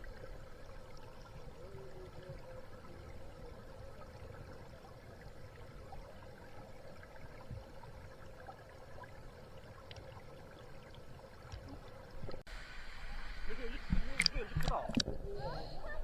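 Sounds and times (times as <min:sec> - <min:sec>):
faint flowing water: 0:00.0 - 0:16.0.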